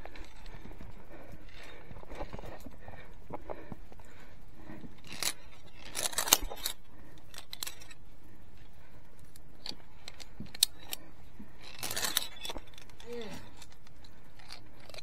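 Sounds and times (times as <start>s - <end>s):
carabiners clinking on steel cable: 0.0s - 3.8s, 4.6s - 8.0s, 8.6s - 15.0s.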